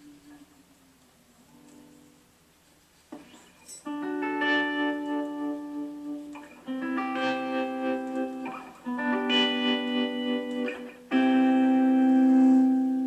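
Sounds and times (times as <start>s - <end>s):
guitar playing slow chords: 0.0s - 2.4s, 3.8s - 13.0s.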